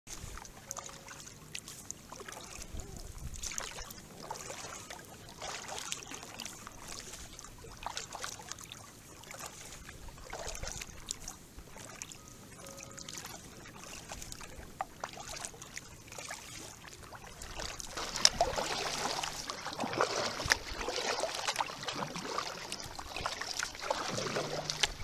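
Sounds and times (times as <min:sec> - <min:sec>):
kayak paddle splashing water: 0:00.1 - 0:25.0.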